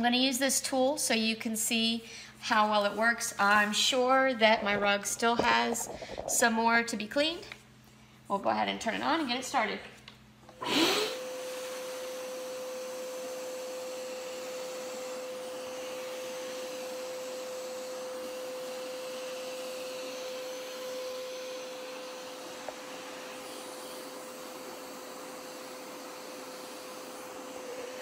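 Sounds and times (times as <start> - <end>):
carpet cleaner running: 0.0 - 7.6, 8.3 - 28.0.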